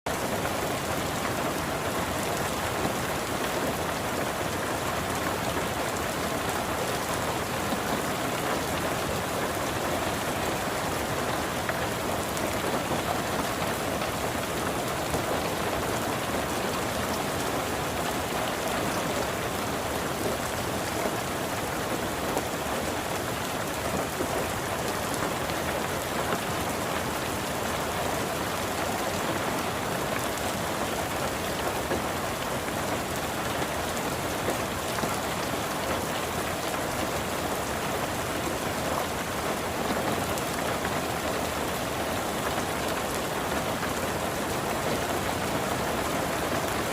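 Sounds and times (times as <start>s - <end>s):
heavy rain on a surface: 0.0s - 46.9s.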